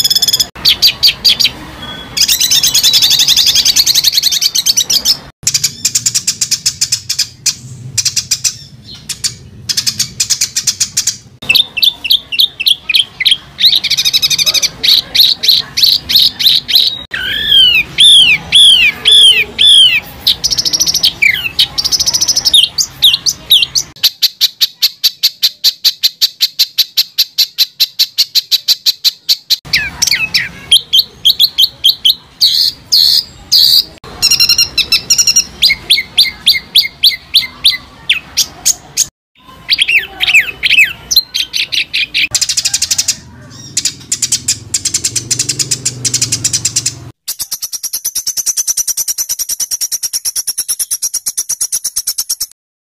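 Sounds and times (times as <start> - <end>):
songbird singing harsh rapid notes: 0.0 - 52.6.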